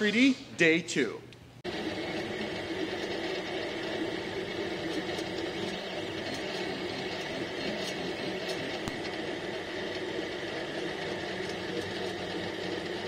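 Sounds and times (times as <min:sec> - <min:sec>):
printer motors whirring: 0:01.6 - 0:13.0.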